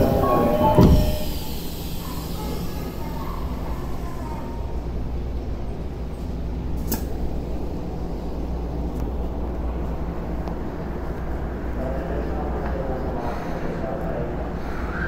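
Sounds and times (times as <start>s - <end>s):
train car low hum: 0.0s - 15.0s.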